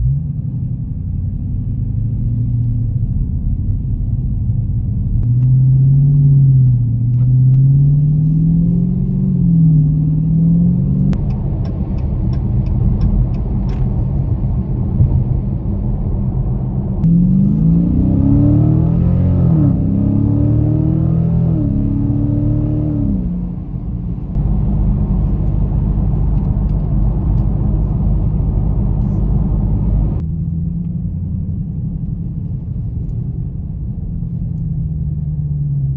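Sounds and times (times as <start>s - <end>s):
road rumble inside car: 0.0s - 35.9s
car engine accelerating: 4.7s - 35.9s.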